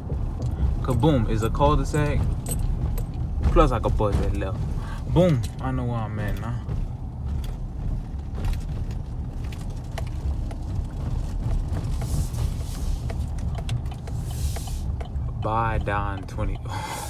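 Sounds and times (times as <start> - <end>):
road and engine rumble: 0.0 - 17.0
small rattles and knocks: 0.0 - 17.0.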